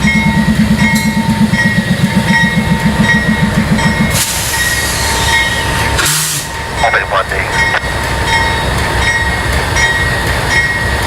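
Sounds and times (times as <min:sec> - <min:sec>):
train low pulsing: 0:00.0 - 0:11.0.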